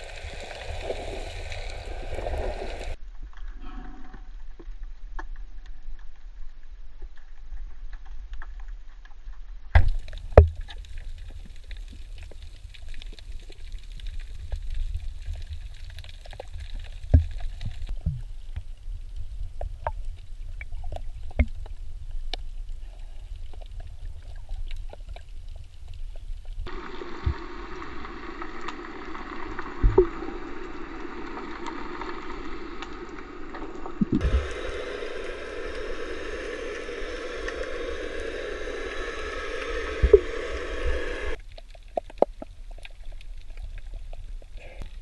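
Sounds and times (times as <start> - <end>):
underwater low rumble: 0.0 - 45.0.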